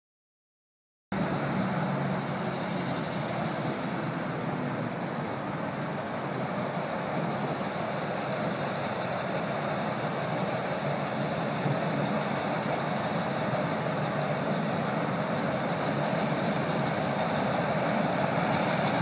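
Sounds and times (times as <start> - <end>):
steam train rumbling: 1.1 - 19.0.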